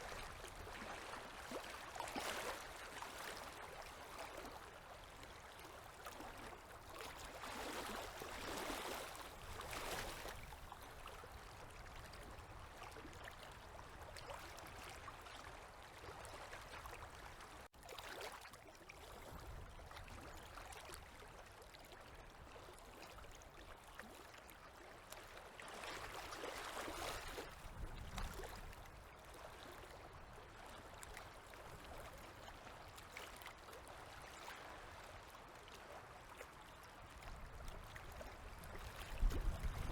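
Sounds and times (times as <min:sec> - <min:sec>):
river waves lapping at shore: 0:00.0 - 0:39.9.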